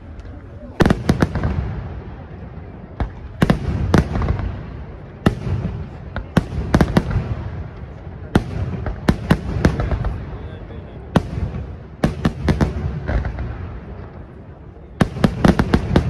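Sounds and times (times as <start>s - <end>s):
fireworks bangs: 0.0s - 16.0s
low rumble of fireworks: 0.0s - 16.0s.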